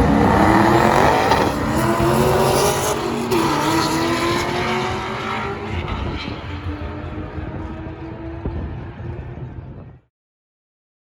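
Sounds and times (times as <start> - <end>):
car engine at high revs: 0.0 - 9.1.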